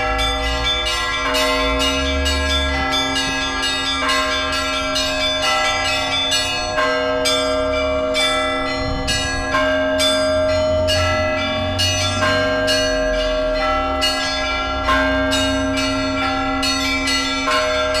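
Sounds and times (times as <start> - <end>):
hum of large bells: 0.0 - 18.0
small church bells striking: 0.0 - 18.0.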